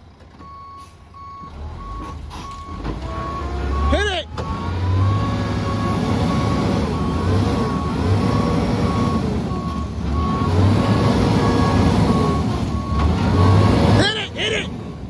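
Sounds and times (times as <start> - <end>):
diesel truck engine rumble: 0.0 - 15.0
truck reversing alarm beeps: 0.3 - 15.0.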